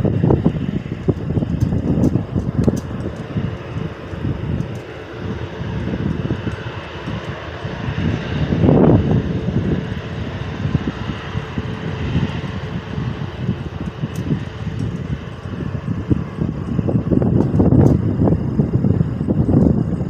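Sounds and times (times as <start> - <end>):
airliner engine passing: 0.0 - 20.0
wind buffeting microphone: 0.0 - 20.0.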